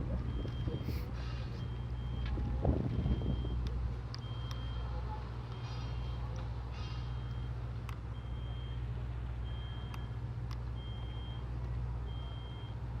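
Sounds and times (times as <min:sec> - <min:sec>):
vehicle reversing alarm beeping: 0:00.0 - 0:13.0.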